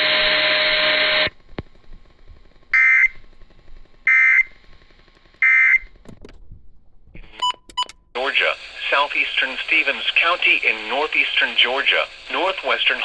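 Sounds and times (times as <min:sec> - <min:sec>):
radio hiss: 0:00.0 - 0:05.7, 0:07.2 - 0:07.5, 0:08.2 - 0:13.0.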